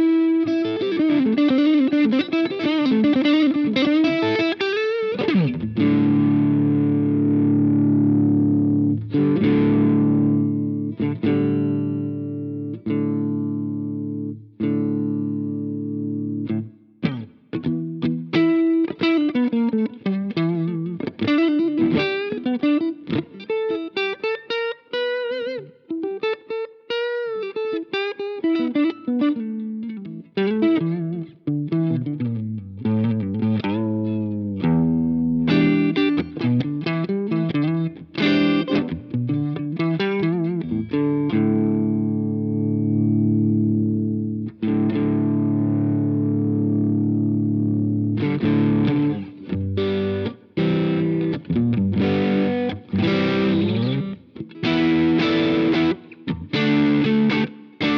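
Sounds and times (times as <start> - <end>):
overdriven electric guitar: 0.0 - 57.9.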